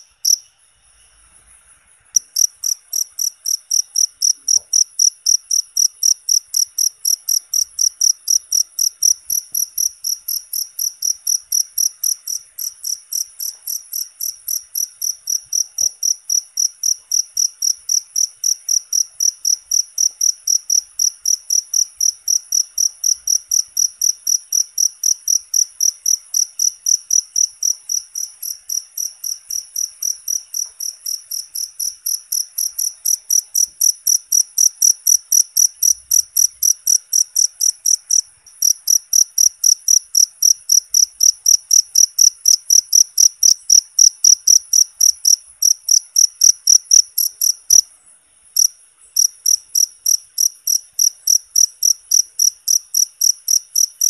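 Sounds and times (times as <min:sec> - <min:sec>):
cricket chirping: 0:00.0 - 0:54.0.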